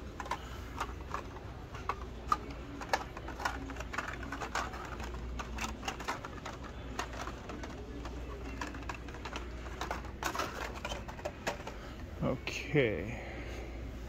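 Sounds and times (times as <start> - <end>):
steady low hum: 0.0 - 14.0
plastic clicks and clacks: 0.2 - 11.8.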